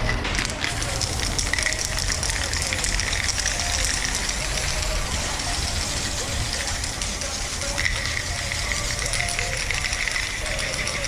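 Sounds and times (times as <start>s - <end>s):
spray-paint can hissing: 0.6s - 11.0s.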